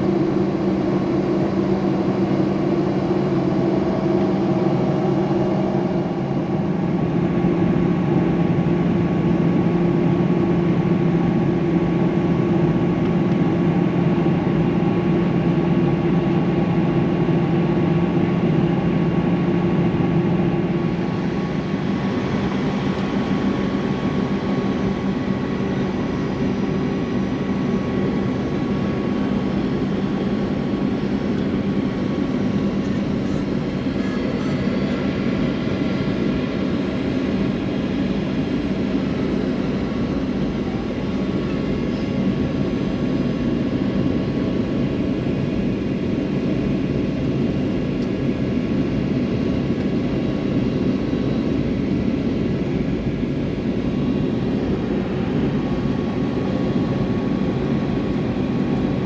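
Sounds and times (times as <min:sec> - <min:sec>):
jet airliner cabin drone: 0:00.0 - 0:59.0.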